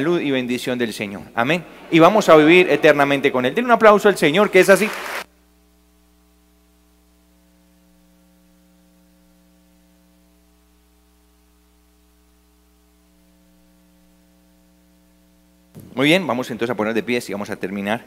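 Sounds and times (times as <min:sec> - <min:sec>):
faint electrical mains hum: 0:00.0 - 0:18.0.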